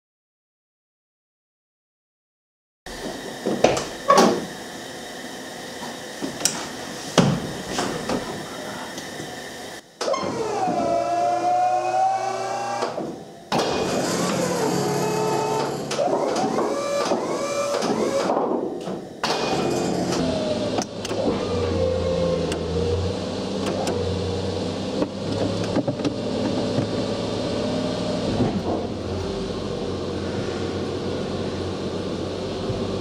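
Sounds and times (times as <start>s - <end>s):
hydraulic pump motor running: 5.8s - 33.0s.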